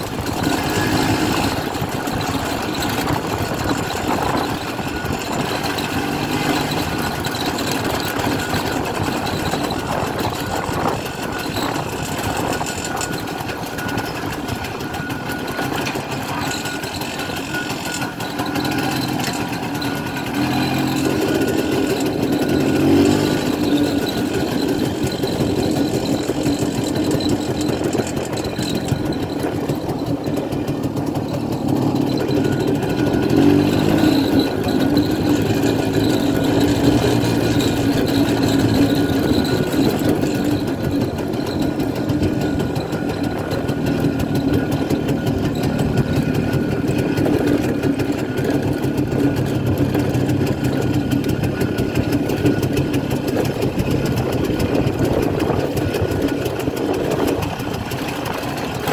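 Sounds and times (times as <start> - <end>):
two-stroke motorcycle engine: 0.0 - 58.9.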